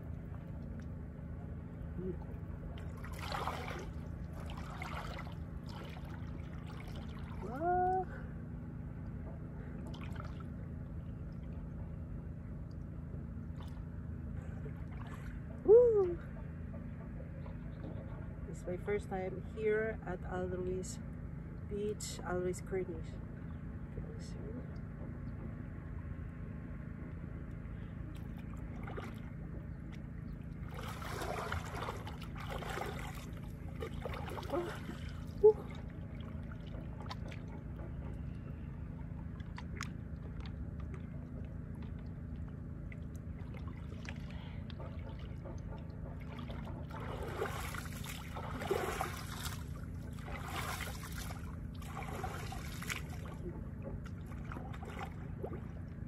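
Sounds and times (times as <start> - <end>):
sea water splashing and sloshing: 0.0 - 12.0, 12.6 - 19.1, 27.6 - 56.0
steady low rumble: 0.0 - 56.0.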